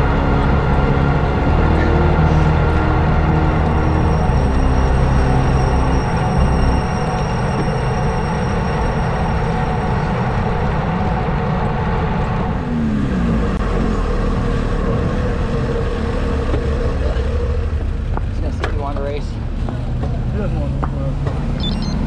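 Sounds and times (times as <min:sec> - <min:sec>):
wind rumbling on microphone: 0:00.0 - 0:21.7
cars passing: 0:00.0 - 0:22.0.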